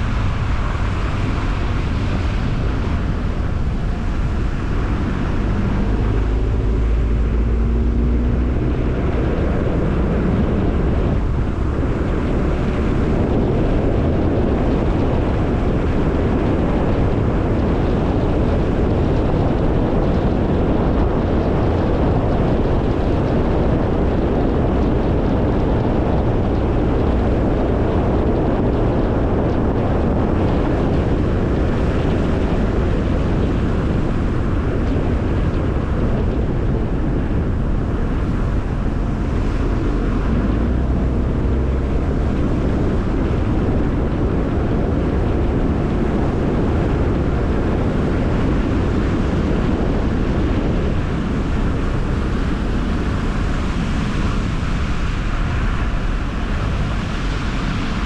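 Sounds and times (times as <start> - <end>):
road and tyre noise: 0.0 - 58.0
wind rushing over microphone: 0.0 - 58.0.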